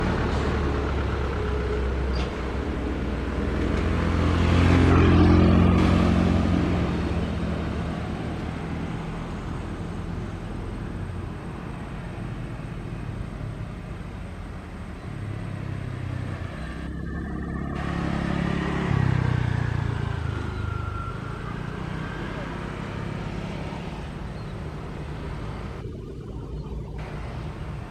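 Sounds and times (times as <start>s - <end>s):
buses passing on a road: 0.0s - 27.9s.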